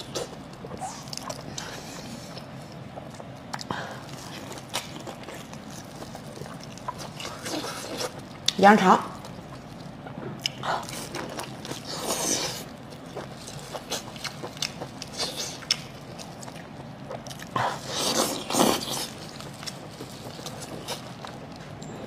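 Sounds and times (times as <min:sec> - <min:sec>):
person chewing wetly: 0:00.0 - 0:21.9.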